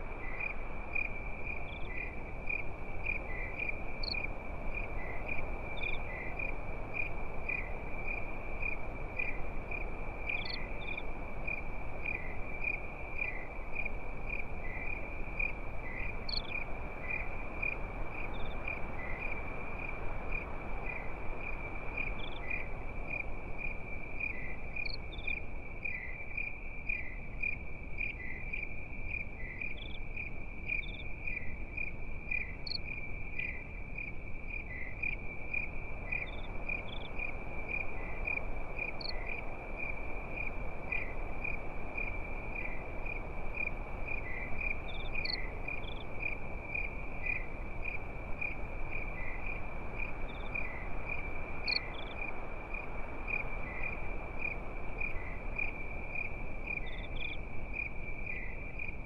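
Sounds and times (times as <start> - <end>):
crickets chirping: 0.0 - 59.0
low hiss: 0.0 - 59.0
higher insect chirps: 0.2 - 59.0.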